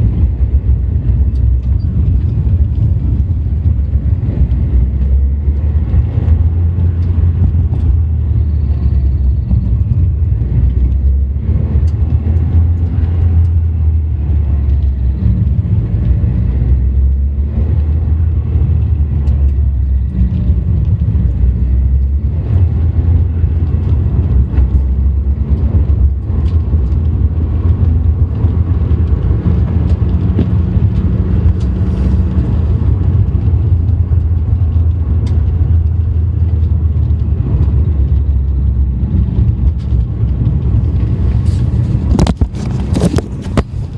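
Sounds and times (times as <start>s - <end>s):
car engine low rumble: 0.0s - 43.9s.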